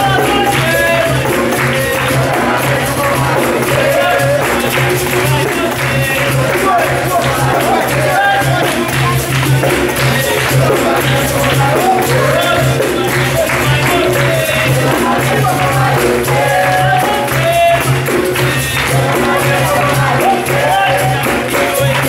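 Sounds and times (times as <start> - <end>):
group hand-clapping: 0.0 - 22.0
hand drum beat: 0.0 - 22.0
tambourine jingling: 0.0 - 22.0
voices singing: 0.0 - 22.0.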